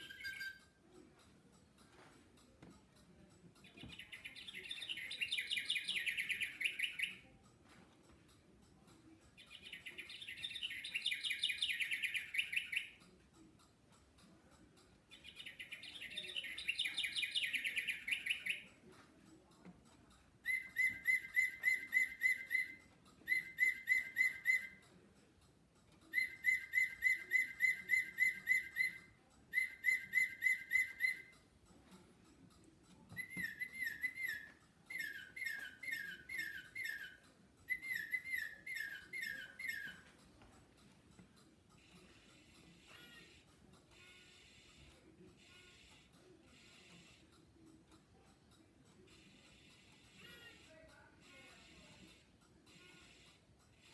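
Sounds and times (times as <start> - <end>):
recorded bird song from speaker: 0.0 - 53.9.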